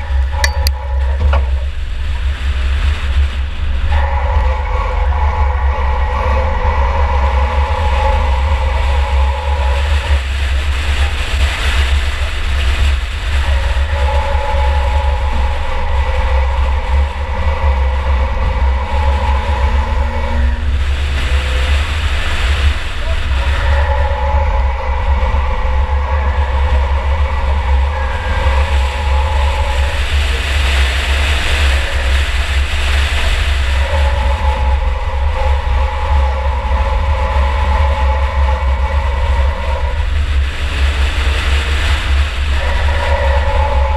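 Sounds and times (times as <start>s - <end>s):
higher engine tone: 0.0s - 43.9s
race car engine rumble: 0.0s - 43.9s
road and wind noise: 0.0s - 43.9s.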